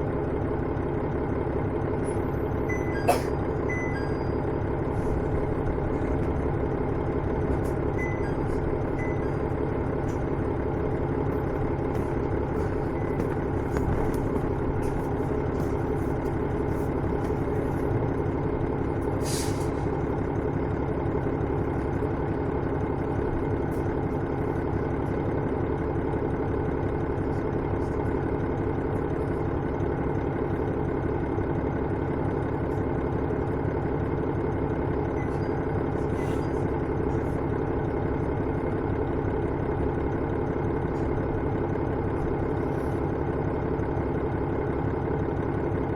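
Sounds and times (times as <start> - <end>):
diesel engine drone: 0.0 - 45.9.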